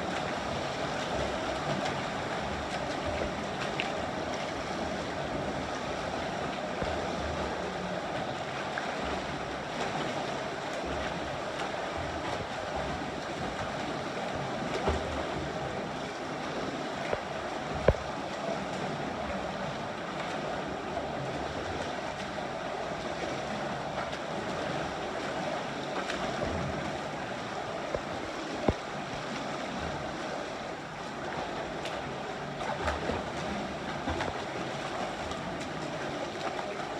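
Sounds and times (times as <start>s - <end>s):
water splashing from swimmers: 0.0s - 36.9s.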